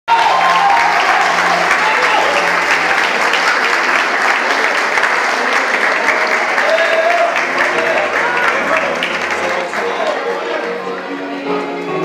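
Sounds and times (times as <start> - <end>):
crowd applauding: 0.1 - 11.6.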